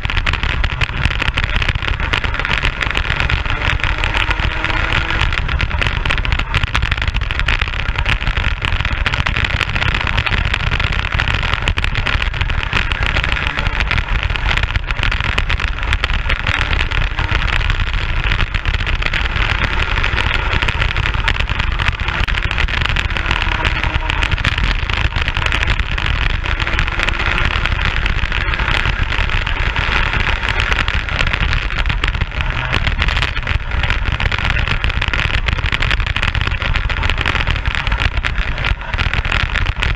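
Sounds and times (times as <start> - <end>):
kart engine running: 0.0 - 39.9
wind rush over microphone: 0.0 - 39.9.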